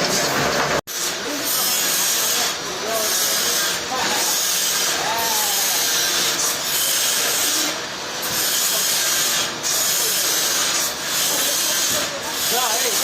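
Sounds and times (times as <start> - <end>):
saw cutting through log: 0.0 - 13.0.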